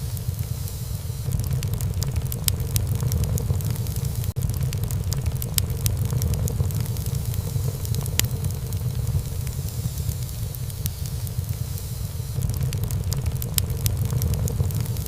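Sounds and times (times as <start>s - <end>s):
fire rumble and hiss: 0.0s - 15.0s
wood crackling: 0.0s - 15.0s.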